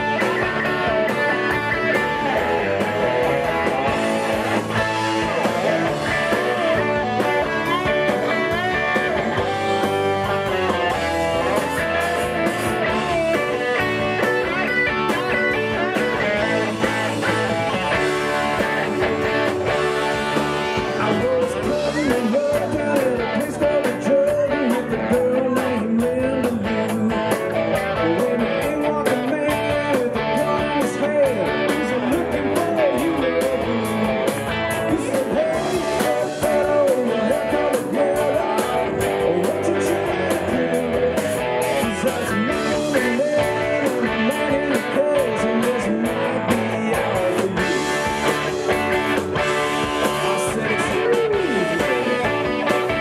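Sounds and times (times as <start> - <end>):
male lead vocal: 0.0 - 14.6, 20.7 - 53.0
drums: 0.0 - 53.0
electric guitars: 0.0 - 53.0.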